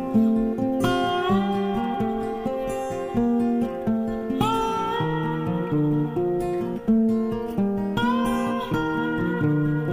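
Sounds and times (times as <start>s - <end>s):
plucked acoustic guitar music: 0.0s - 9.9s.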